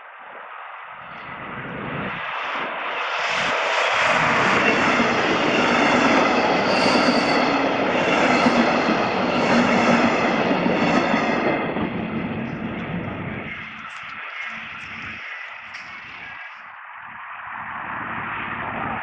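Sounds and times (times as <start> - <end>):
train wheels rumbling on rails: 0.9 - 16.8.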